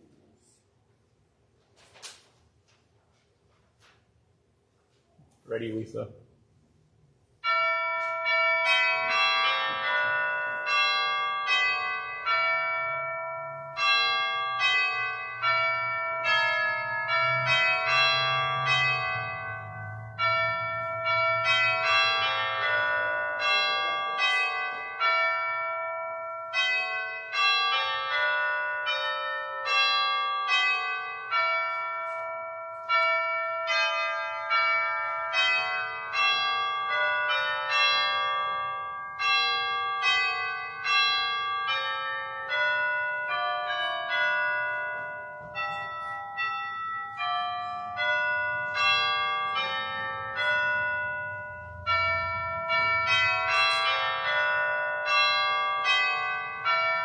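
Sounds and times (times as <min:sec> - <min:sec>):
bells playing slow melody: 0:07.4 - 0:57.0.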